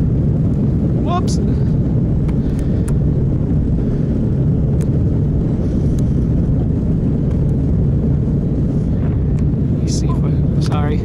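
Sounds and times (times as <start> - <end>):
motorboat engine rumbling: 0.0 - 11.0
wind buffeting microphone: 0.0 - 11.0.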